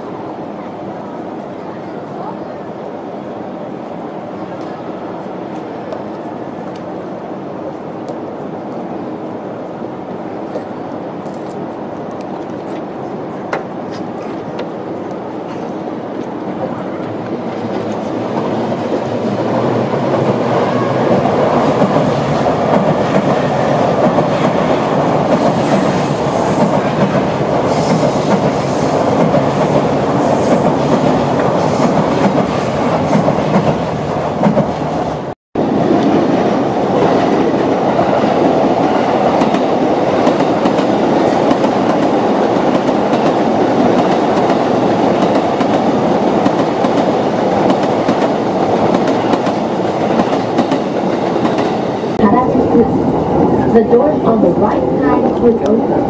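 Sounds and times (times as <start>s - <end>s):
trains rumbling over tracks: 0.0s - 56.0s.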